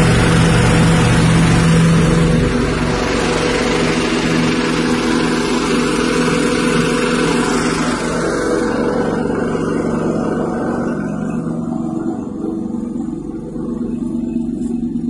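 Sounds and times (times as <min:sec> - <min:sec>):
grinding mill hissing: 0:00.0 - 0:15.0
petrol engine running: 0:00.0 - 0:15.0.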